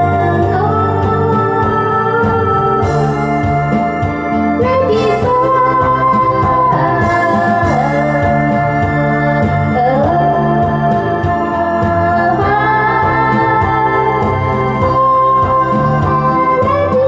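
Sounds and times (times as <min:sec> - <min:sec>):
electronic organ-like keyboard music: 0:00.0 - 0:17.0.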